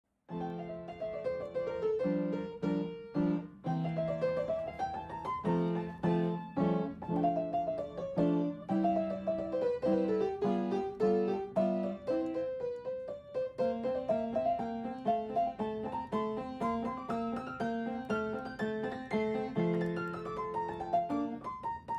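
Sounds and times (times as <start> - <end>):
solo piano music: 0.1 - 21.9.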